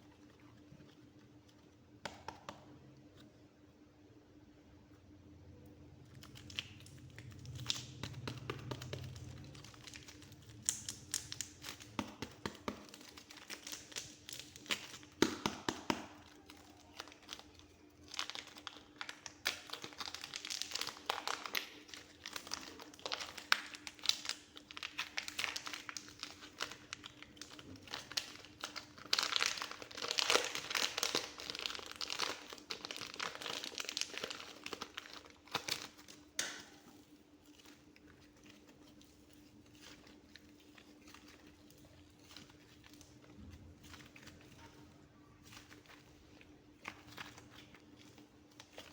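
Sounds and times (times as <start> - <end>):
clay crackling when kneaded: 6.0 - 48.9.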